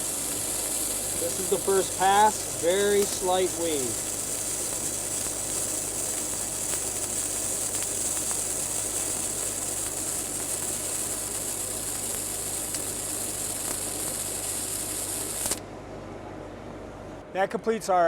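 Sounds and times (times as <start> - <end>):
welding arc hissing: 0.0 - 15.6.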